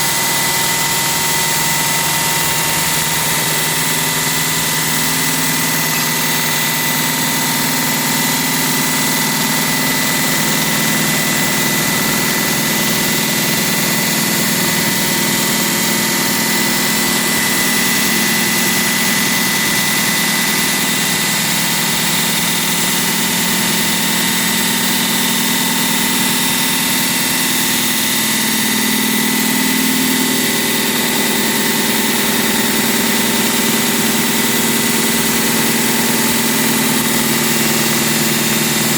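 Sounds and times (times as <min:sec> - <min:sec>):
construction machine engine running: 0:00.0 - 0:38.9
thin steady whine: 0:00.0 - 0:38.9.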